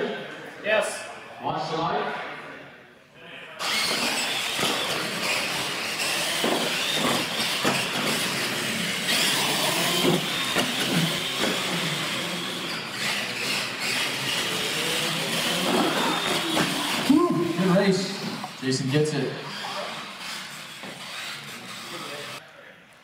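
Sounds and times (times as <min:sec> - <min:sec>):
toy truck motors whining: 0:03.6 - 0:22.4
tyres on concrete floor: 0:03.6 - 0:22.4.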